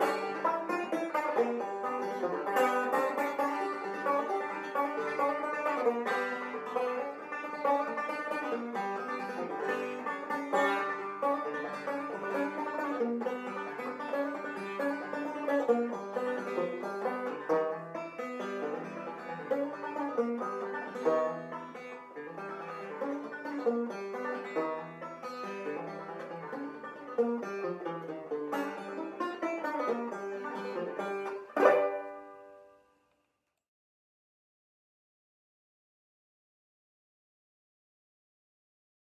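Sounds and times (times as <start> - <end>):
banjo plucking: 0.0 - 32.9.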